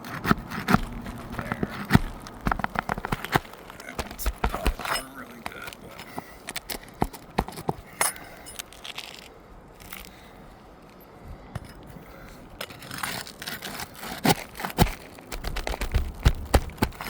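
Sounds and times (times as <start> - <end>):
shingle crackling: 0.0 - 17.0
tool scraping under shingles: 0.0 - 17.0.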